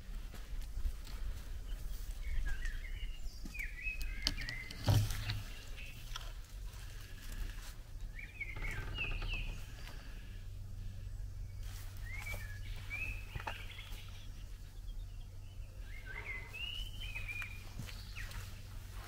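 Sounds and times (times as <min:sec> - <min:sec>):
birds chirping: 0:00.0 - 0:19.0
low steady rumble: 0:00.0 - 0:19.0.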